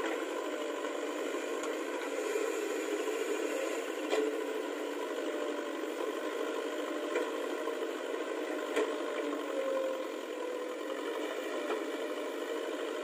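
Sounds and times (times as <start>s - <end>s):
diesel engine under hydraulic load: 0.0s - 13.0s.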